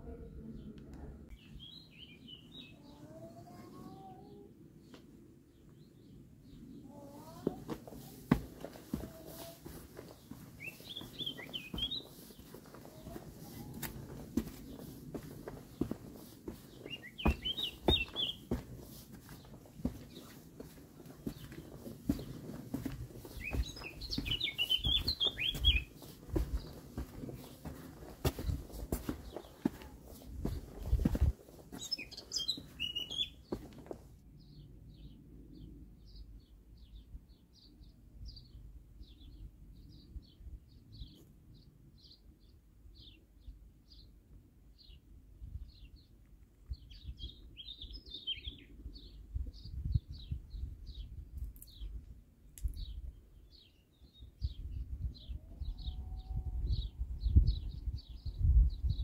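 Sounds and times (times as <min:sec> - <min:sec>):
songbird chirping: 0:00.0 - 0:44.2, 0:44.8 - 0:59.0.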